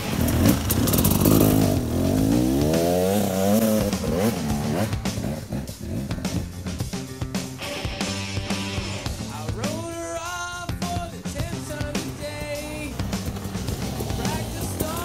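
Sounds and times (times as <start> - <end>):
dirt bike engine revving: 0.0 - 10.0, 10.9 - 15.0.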